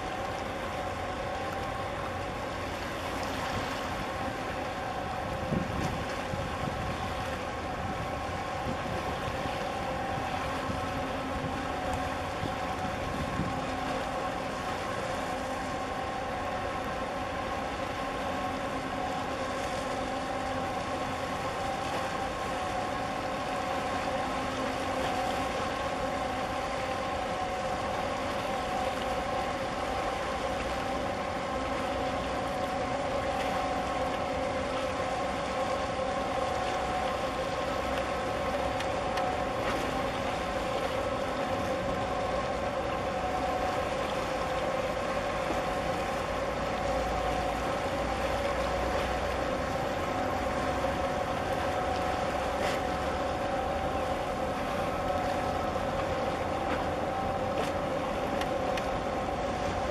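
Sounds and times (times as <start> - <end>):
ship machinery hum: 0.0 - 59.9.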